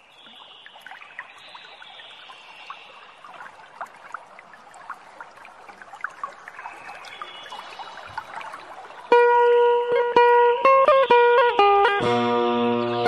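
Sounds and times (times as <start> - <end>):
water trickling and lapping: 0.0 - 11.0.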